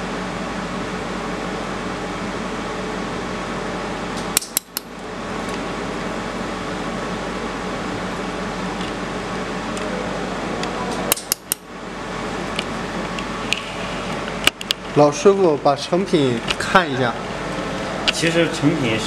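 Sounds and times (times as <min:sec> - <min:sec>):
cooling fan whirring: 0:00.0 - 0:19.0.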